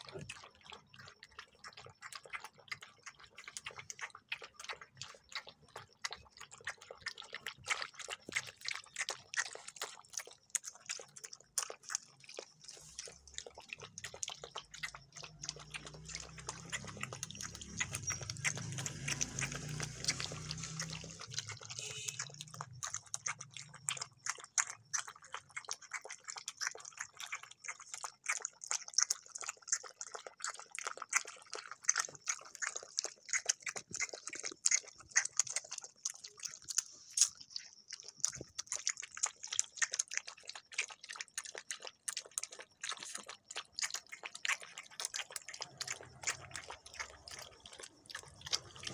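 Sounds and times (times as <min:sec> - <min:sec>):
puppies lapping and chewing food: 0:00.0 - 0:48.9.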